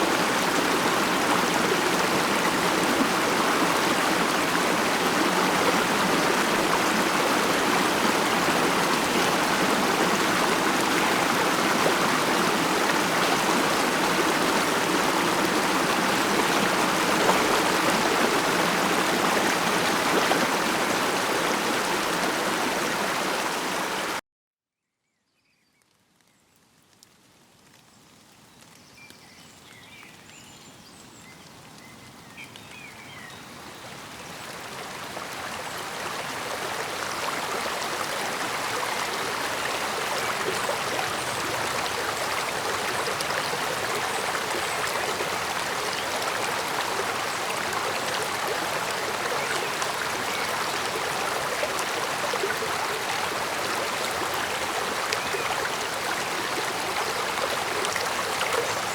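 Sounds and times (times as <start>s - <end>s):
mountain stream rushing and babbling: 0.0s - 24.2s, 31.2s - 58.9s.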